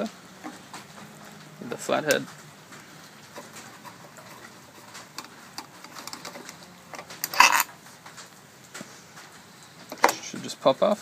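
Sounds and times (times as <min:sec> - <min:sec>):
plastic cover scraping and rattling: 0:00.0 - 0:11.0.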